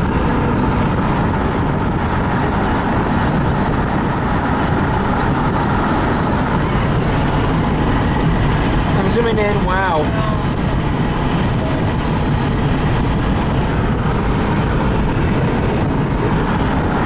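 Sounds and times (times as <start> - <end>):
car tyres and engine rumble: 0.0 - 17.0.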